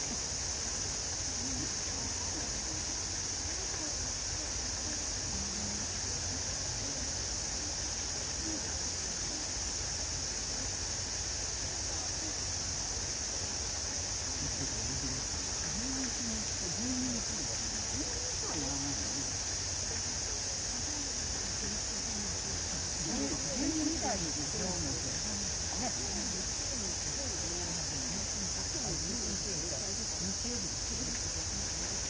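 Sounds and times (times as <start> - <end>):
faint murmur of voices: 0.0 - 32.0.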